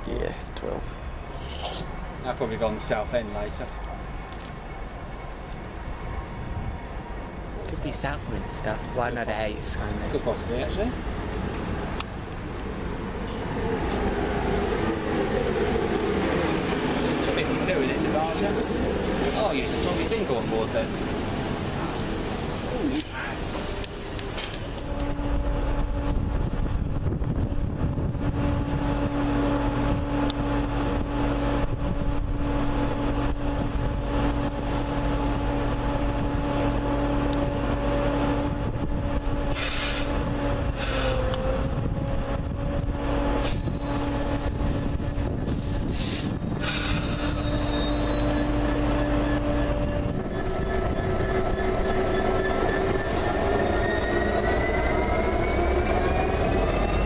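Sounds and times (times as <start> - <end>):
train rumble and hum: 0.0 - 57.0
train whine pulling away: 1.0 - 57.0.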